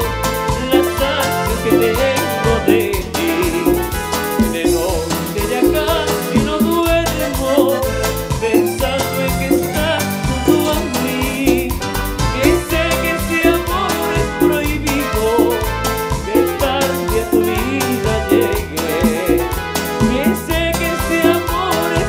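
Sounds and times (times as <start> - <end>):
band playing latin dance music: 0.0 - 22.0.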